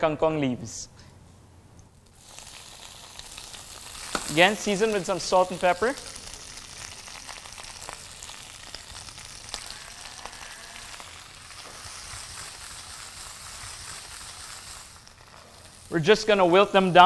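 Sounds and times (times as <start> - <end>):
leaves sizzling in hot oil: 2.1 - 17.0.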